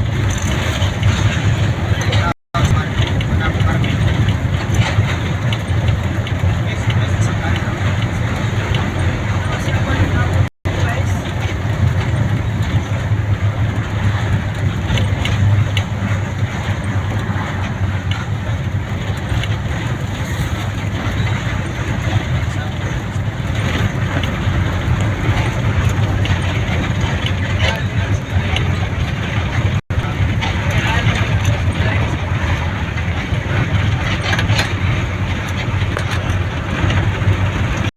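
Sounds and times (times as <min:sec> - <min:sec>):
vehicle engine and road noise: 0:00.0 - 0:37.9.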